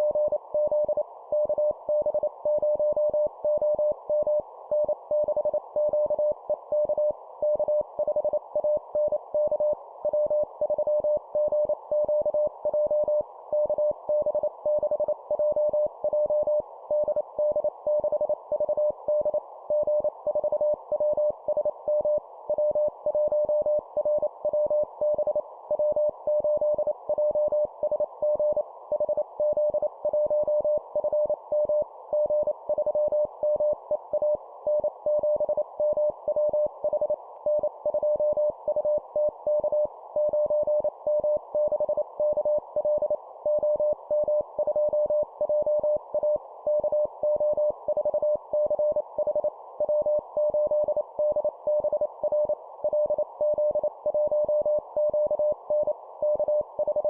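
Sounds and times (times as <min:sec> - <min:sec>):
morse code beeps: 0:00.0 - 0:57.0.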